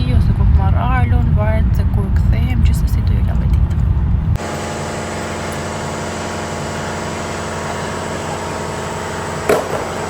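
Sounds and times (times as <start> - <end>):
car engine humming: 0.4 - 10.0.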